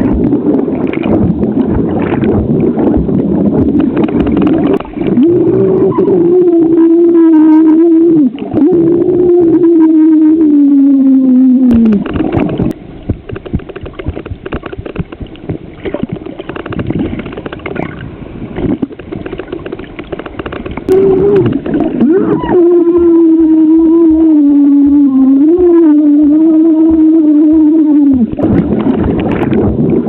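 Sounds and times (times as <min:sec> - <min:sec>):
underwater gurgling and bubbling: 0:00.0 - 0:30.0.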